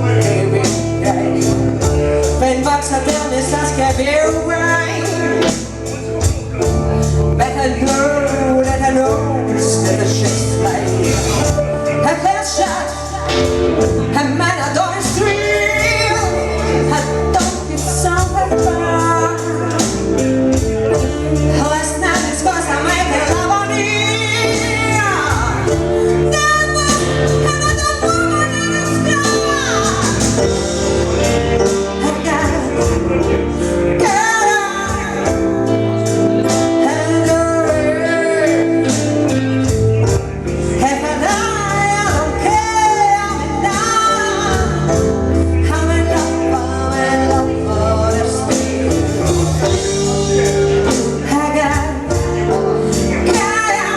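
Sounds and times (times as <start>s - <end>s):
song with female and male vocals: 0.0s - 53.9s.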